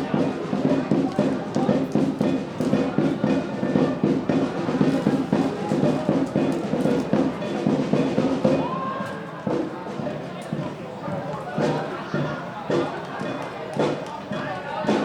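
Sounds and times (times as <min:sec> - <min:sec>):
drums beaten fast: 0:00.0 - 0:15.0.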